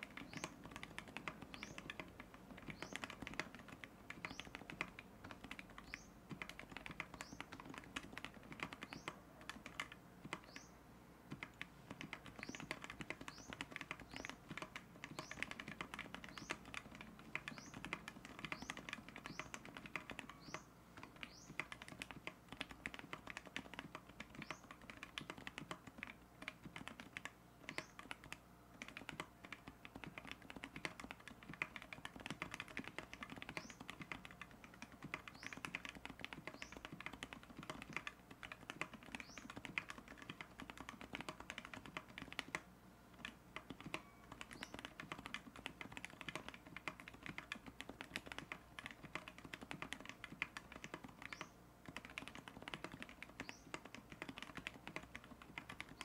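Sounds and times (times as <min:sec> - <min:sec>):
mechanical keyboard typing: 0:00.0 - 0:10.7, 0:11.3 - 0:56.0.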